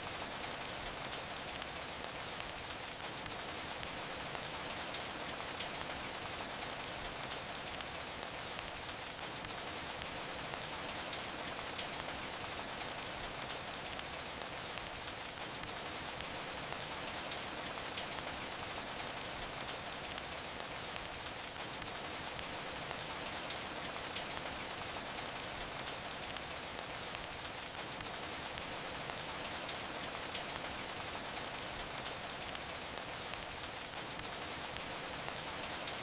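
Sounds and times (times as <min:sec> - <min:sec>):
steady rain falling: 0:00.0 - 0:36.0
wood fire crackling and popping: 0:00.0 - 0:36.0.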